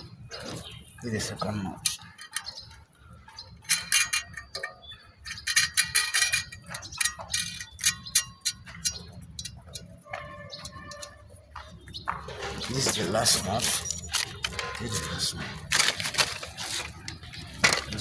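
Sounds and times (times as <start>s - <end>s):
metal clinking of nut on bolt: 0.3s - 2.8s, 3.5s - 11.2s, 12.3s - 18.0s.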